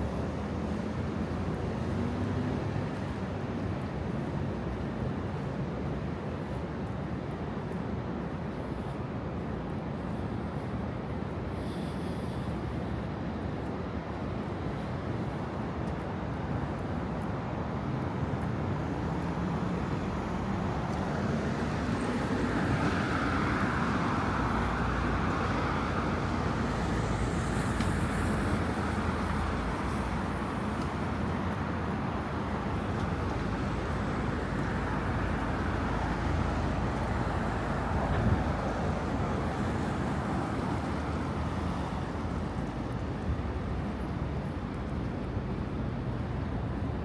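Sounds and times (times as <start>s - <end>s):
city street traffic: 0.0s - 47.0s.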